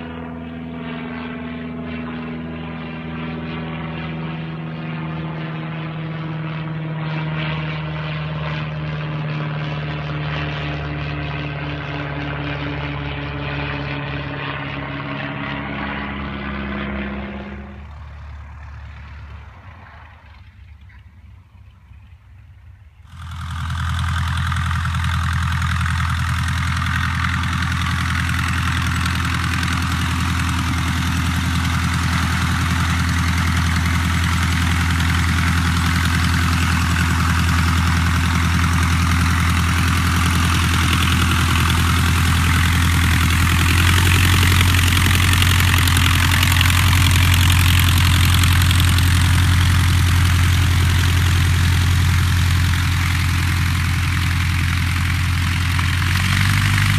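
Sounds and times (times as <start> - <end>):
light aircraft propeller engine: 0.0 - 56.9.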